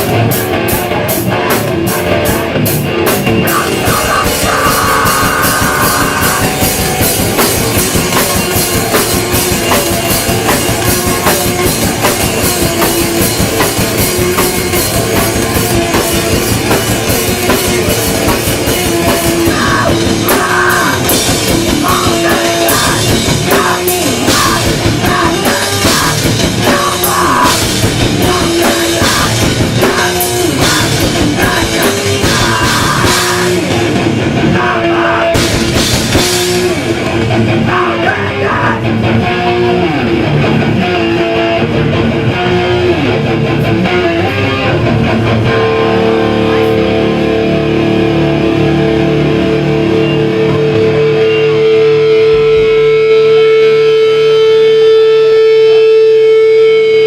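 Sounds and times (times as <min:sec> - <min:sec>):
pounding drum kit: 0:00.0 - 0:56.0
bass guitar: 0:00.0 - 0:57.0
distorted electric guitars: 0:00.0 - 0:57.0.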